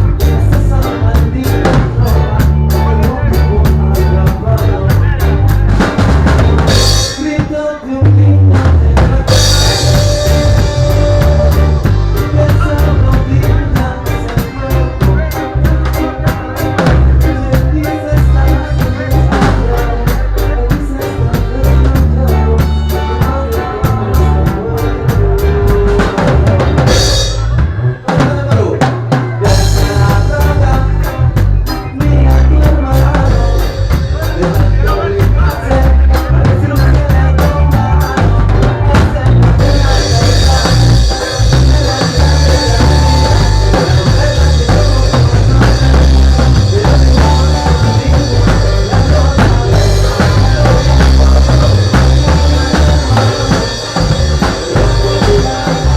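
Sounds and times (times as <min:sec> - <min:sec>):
band music: 0:00.0 - 0:55.9
drum kit beat: 0:00.0 - 0:55.9.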